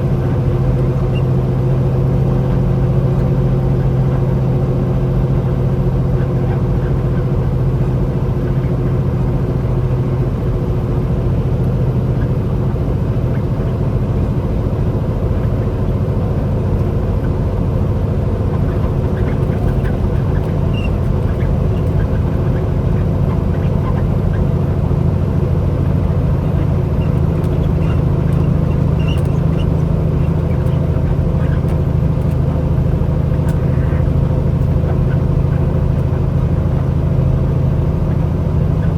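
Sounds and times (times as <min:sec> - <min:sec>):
truck engine running inside cab: 0:00.0 - 0:38.9.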